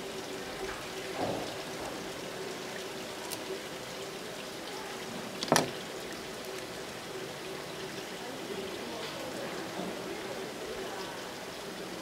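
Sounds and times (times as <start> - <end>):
water splashing and pattering: 0.0 - 12.0.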